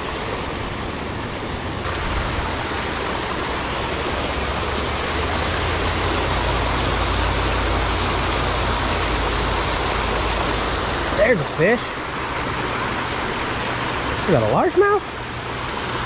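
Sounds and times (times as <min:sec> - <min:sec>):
water rushing over spillway: 0:00.0 - 0:16.0.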